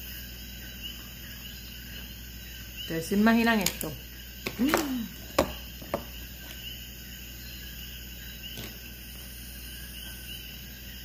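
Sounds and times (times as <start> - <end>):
background hum and hiss: 0.0 - 11.0
high insect chirping: 0.0 - 11.0.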